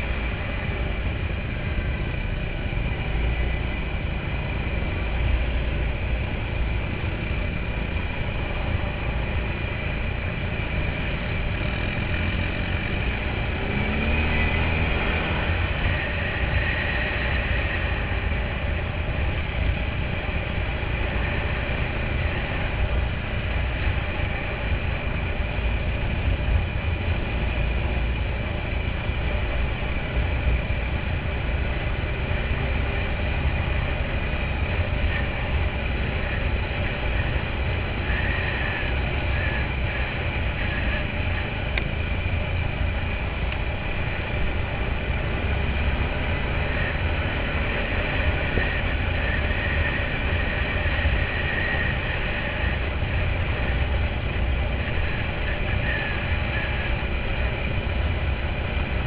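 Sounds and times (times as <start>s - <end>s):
quad bike engine rumbling: 0.0s - 59.0s.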